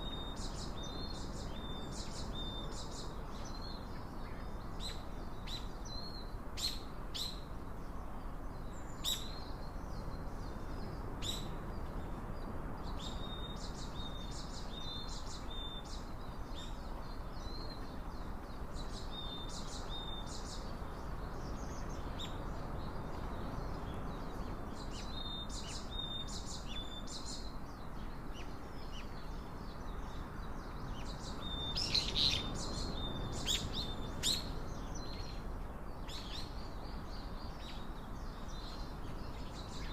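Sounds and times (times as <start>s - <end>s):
low background hiss: 0.0s - 39.9s
small birds chirping: 0.0s - 39.9s.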